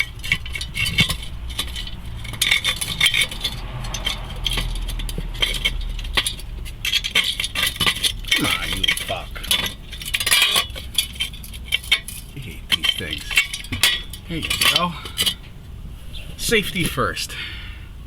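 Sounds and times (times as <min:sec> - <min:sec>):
metal tools clinking: 0:00.0 - 0:15.6.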